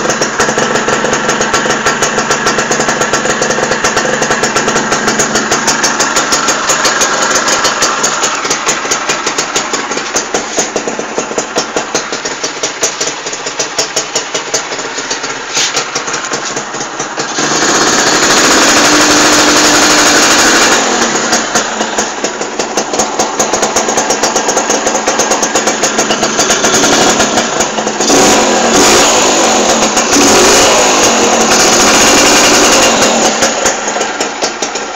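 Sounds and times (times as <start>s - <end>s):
two-stroke motorcycle exhaust revving: 0.0s - 34.9s.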